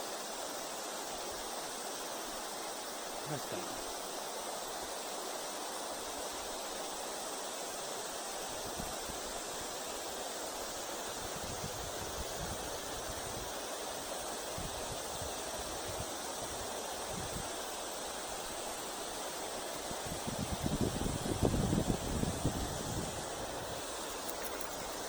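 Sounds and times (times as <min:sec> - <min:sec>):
river water rushing over stones: 0:00.0 - 0:25.0.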